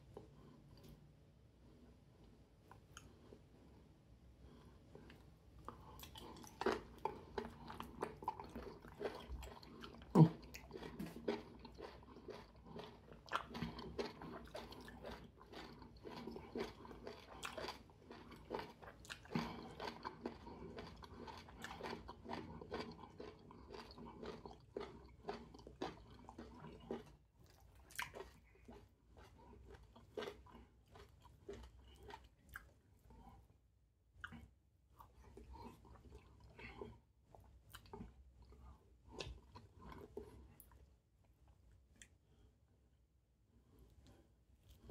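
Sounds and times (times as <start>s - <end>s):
wet chewing and mouth clicks: 2.6s - 3.5s, 4.8s - 42.4s.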